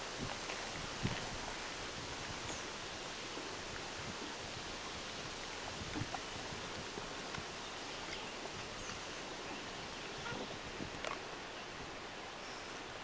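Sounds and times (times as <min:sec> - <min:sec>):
river hiss: 0:00.0 - 0:13.0
wind: 0:00.0 - 0:13.0.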